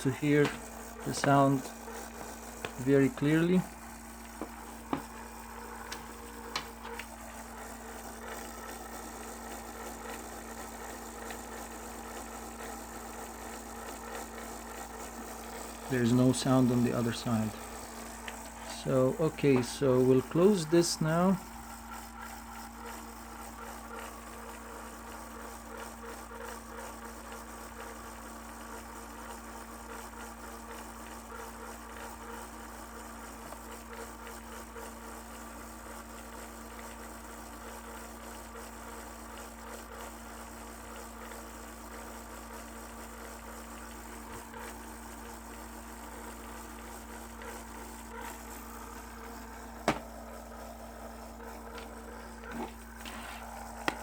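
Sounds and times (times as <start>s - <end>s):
laptop fan buzzing hum: 0.0s - 54.0s.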